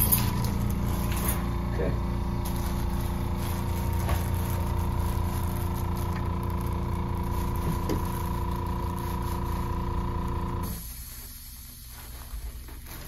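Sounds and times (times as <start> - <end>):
high whine: 0.0 - 10.9
machine hum: 0.0 - 12.3.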